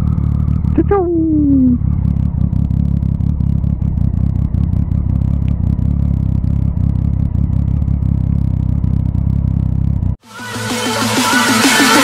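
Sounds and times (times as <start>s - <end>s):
motorcycle engines idling: 0.0s - 10.2s.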